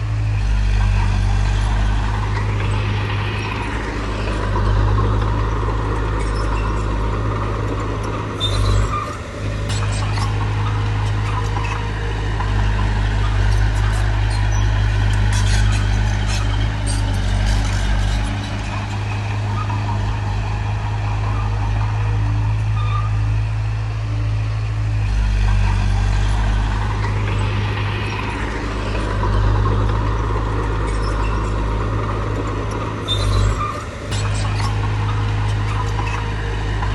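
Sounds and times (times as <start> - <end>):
heavy diesel engine droning: 0.0 - 36.9.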